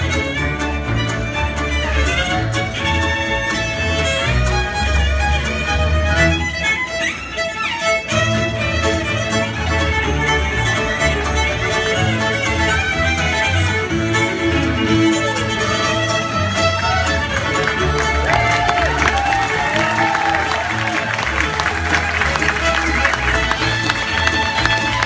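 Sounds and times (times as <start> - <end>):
bass notes: 0.0 - 6.6, 8.2 - 25.0
fiddles playing a tune: 0.0 - 25.0.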